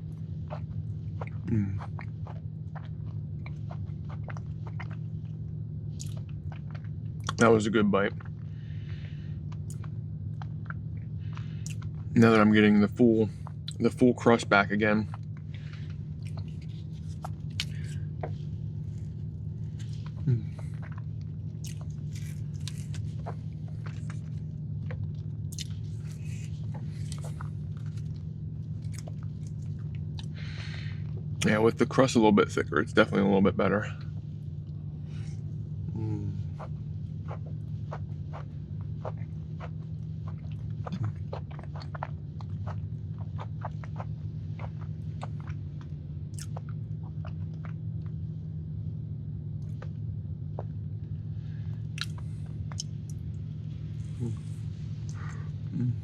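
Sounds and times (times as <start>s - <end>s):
chewing with mouth clicks: 0.0s - 31.8s, 34.0s - 48.3s, 49.0s - 56.0s
steady low hum: 0.0s - 56.0s.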